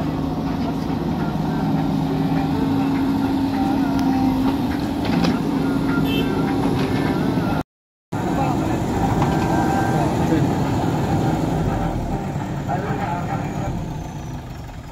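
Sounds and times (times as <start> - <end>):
diesel engines running: 0.0 - 14.9.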